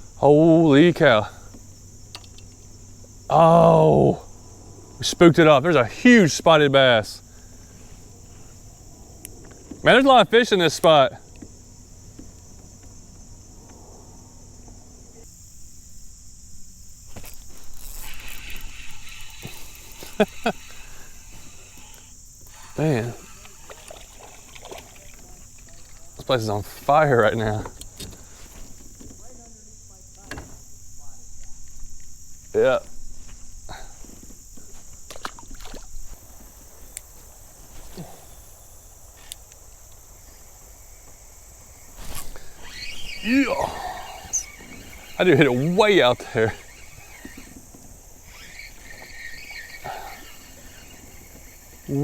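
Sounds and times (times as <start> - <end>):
insects chorus: 0.0 - 52.0.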